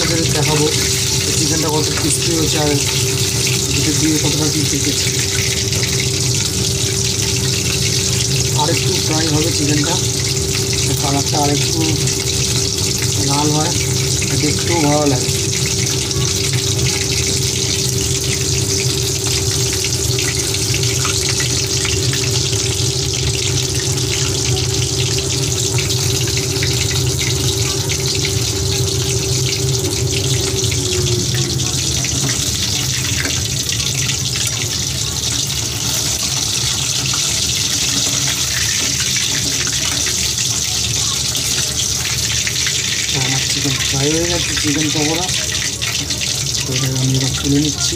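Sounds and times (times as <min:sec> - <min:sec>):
low steady hum: 0:00.0 - 0:47.9
oil sizzling while deep-frying: 0:00.0 - 0:47.9.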